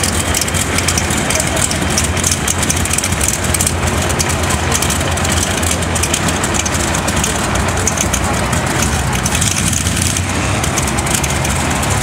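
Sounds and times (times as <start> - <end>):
tractor engines running loudly: 0.0 - 12.0.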